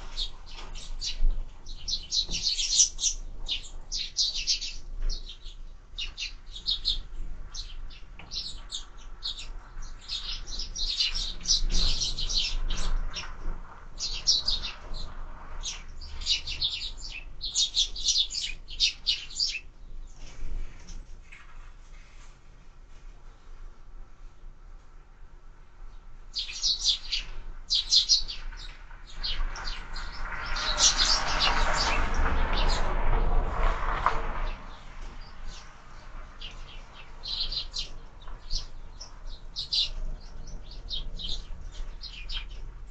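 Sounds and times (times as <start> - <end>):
sparrows chirping: 0.0 - 21.1, 25.8 - 33.0, 34.4 - 42.9.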